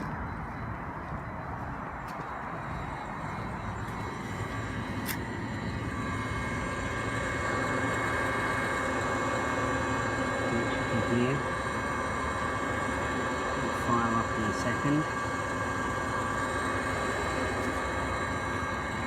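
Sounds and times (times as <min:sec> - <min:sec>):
heater mechanical whine and hum: 0:00.0 - 0:19.0.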